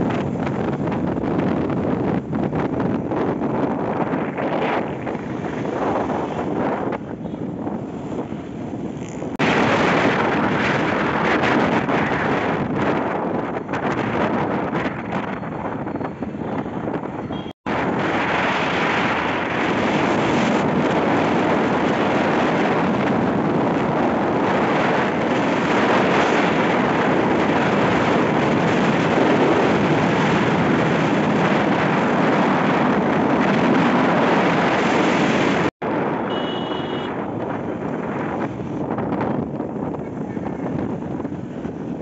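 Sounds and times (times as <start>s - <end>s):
surrounding traffic: 0.0s - 42.0s
vehicle road noise: 0.0s - 42.0s
wind rushing over microphone: 0.0s - 42.0s.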